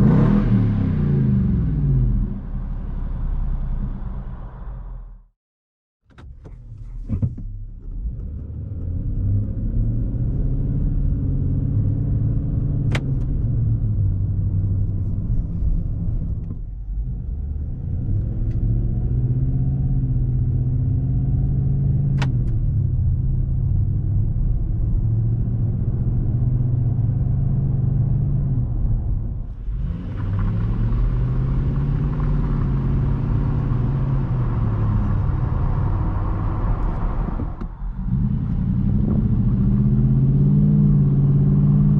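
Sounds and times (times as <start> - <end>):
engine exhaust accelerating: 8.1 - 41.9.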